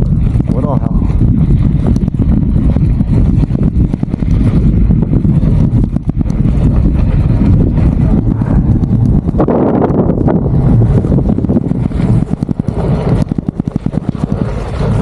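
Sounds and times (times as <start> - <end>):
small clicks and crackles: 0.0 - 15.0
wind buffeting microphone: 0.0 - 15.0.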